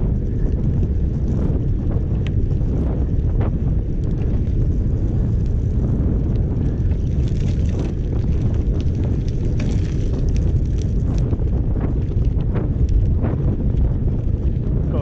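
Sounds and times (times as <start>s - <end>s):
bicycle tyres on gravel: 0.0s - 15.0s
wind buffeting microphone: 0.0s - 15.0s
small clicks and rattles: 2.1s - 14.6s.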